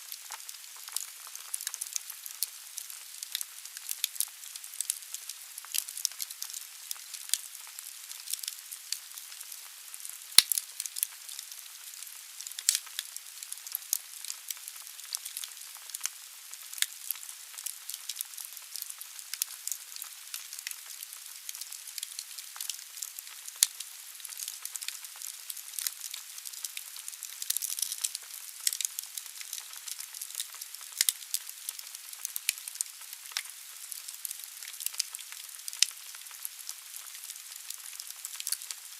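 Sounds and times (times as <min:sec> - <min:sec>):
logs crackling and popping: 0:00.1 - 0:38.9.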